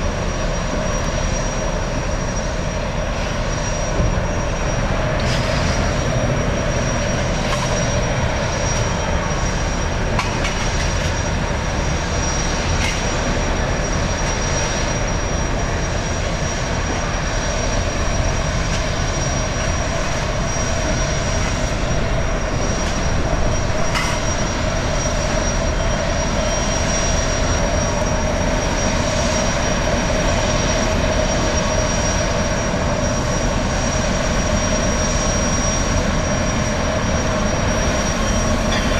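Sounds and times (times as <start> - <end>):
gas turbines whining: 0.0 - 38.9.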